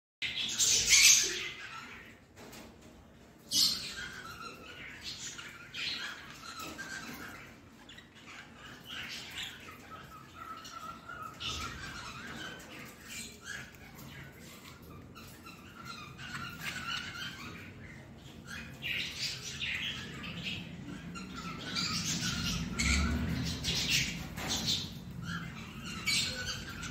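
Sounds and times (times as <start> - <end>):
budgerigars squawking: 0.2 - 2.3, 3.5 - 26.9
budgerigars chirping and warbling: 0.2 - 26.9.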